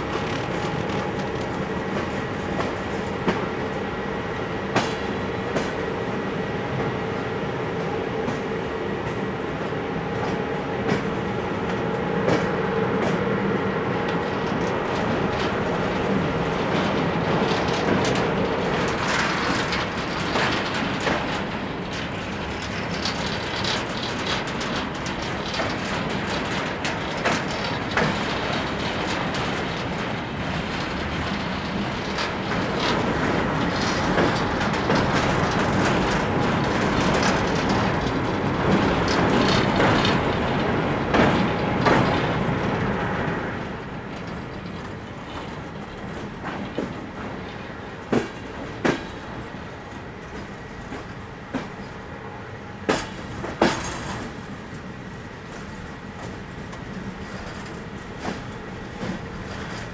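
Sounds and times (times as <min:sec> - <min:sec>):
wheels clicking over rail joints: 0:00.0 - 0:03.8, 0:04.7 - 0:05.8, 0:10.2 - 0:13.3, 0:14.0 - 0:52.0, 0:52.8 - 0:59.9
train rolling rumble: 0:00.0 - 0:59.9.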